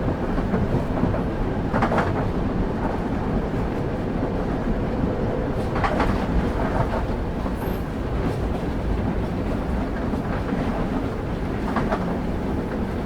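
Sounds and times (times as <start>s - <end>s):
faint rail clacks: 0.0s - 13.0s
train wheels rumbling on rails: 0.0s - 13.0s.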